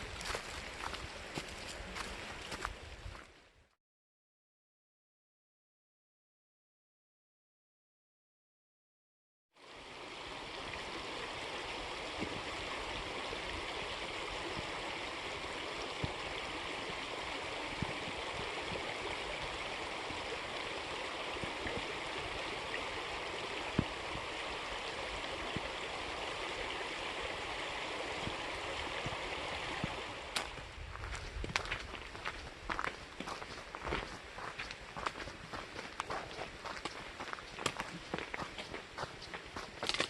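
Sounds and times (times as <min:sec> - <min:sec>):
creek water rushing: 0:00.0 - 0:03.6, 0:09.6 - 0:40.0.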